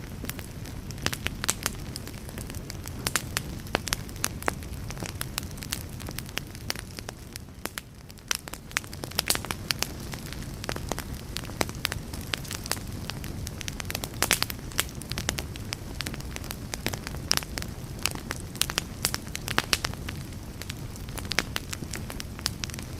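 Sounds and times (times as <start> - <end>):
campfire crackles and pops: 0.0 - 22.9
low rumble of flames: 0.0 - 22.9.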